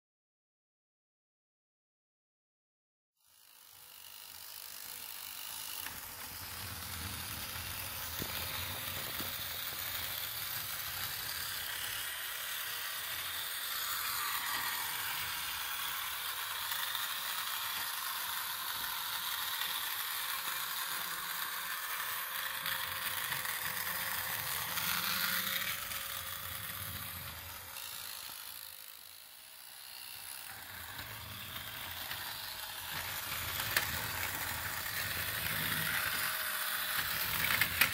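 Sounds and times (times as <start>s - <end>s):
toy motor and gears whirring: 3.2s - 37.9s.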